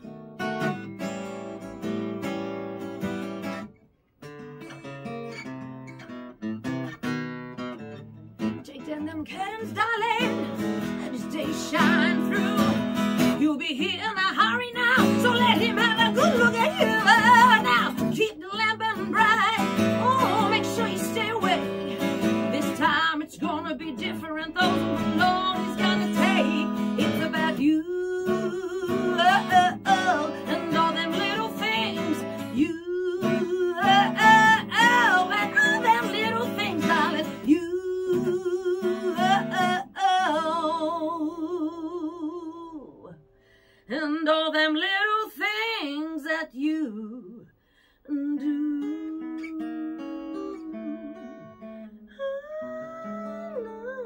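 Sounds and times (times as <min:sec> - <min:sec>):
acoustic guitar: 0:00.0 - 0:54.0
woman singing: 0:08.4 - 0:43.3, 0:43.9 - 0:54.0.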